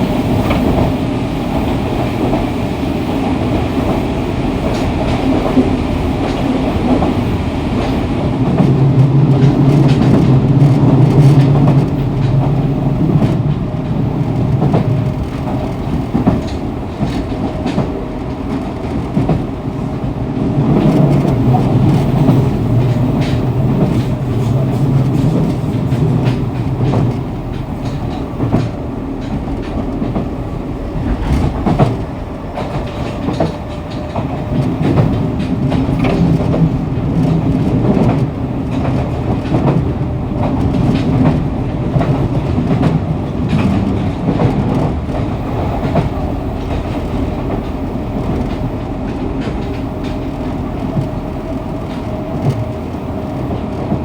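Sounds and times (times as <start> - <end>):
train running noise: 0.0 - 54.0
wheels clicking over rail joints: 4.6 - 54.0.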